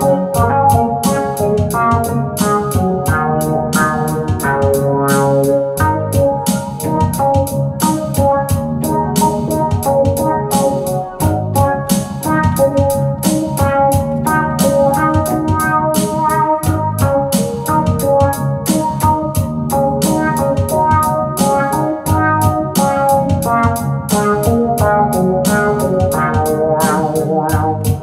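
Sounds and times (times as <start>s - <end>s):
electronic drum beat: 0.0s - 28.0s
hi-hat ticks: 0.0s - 28.0s
synthesizer organ-like chords: 0.0s - 28.0s.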